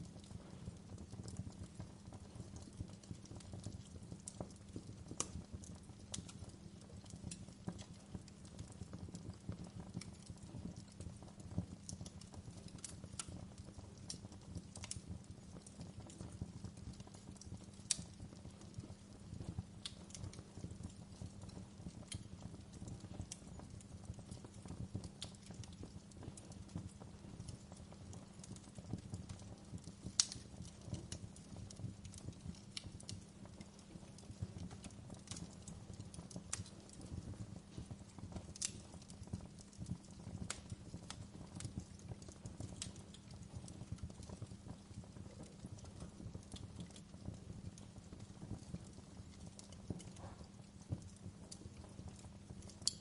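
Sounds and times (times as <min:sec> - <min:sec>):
fireplace fire crackling: 0:00.0 - 0:53.0
sharp pops and snaps: 0:01.0 - 0:53.0.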